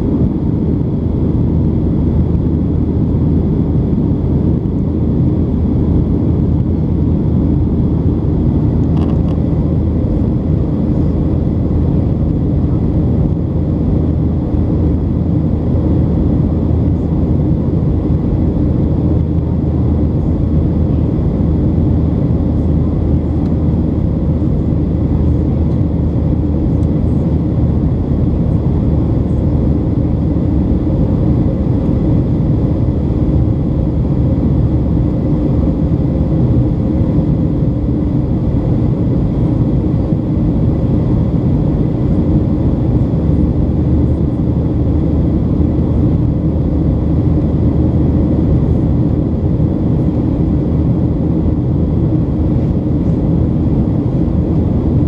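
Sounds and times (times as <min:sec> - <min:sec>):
airplane engines droning: 0:00.0 - 0:55.0
faint steady whines: 0:00.0 - 0:55.0.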